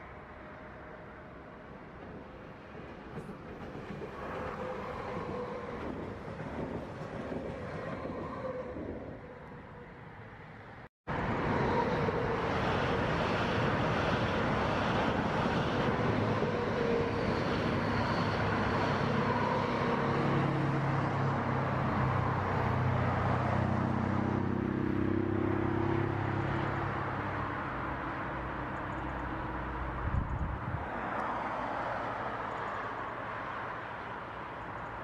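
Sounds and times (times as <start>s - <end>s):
electric train passing: 0.0s - 35.0s
motorway traffic: 0.0s - 35.0s.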